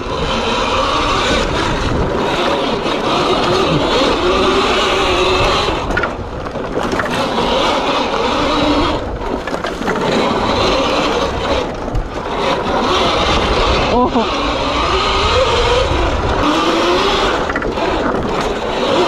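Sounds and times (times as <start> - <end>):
electric motor whining: 0.0 - 19.0
tyres tearing through dirt: 0.0 - 19.0.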